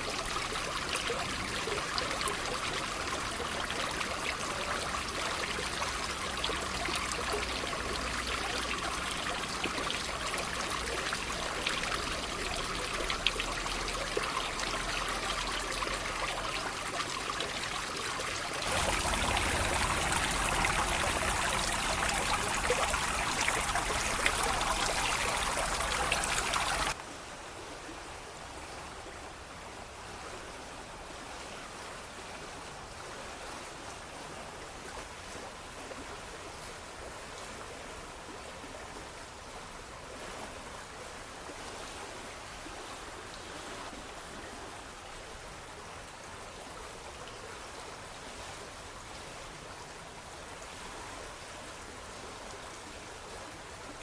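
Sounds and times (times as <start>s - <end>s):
water trickling and babbling: 0.0s - 54.0s.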